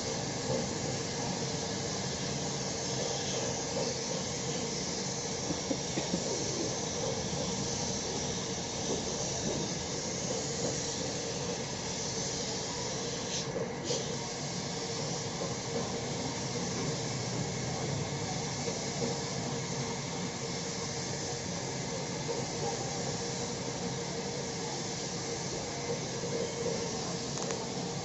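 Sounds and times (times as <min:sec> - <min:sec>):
workshop machinery hissing: 0:00.0 - 0:28.0.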